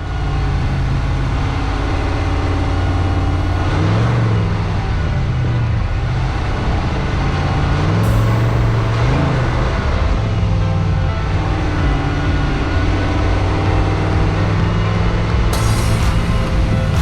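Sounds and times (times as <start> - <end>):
road noise: 0.0 - 17.0
vehicle engine revving: 0.0 - 17.0.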